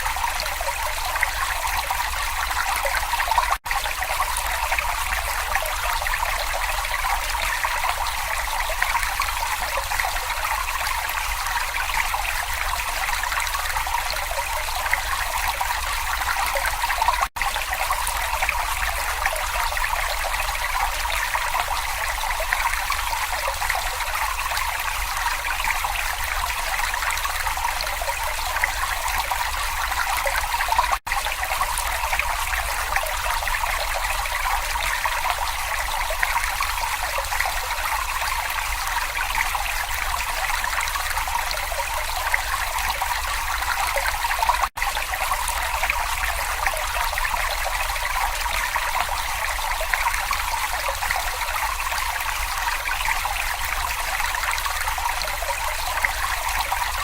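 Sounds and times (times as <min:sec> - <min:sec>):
water trickling over stones: 0:00.0 - 0:57.0.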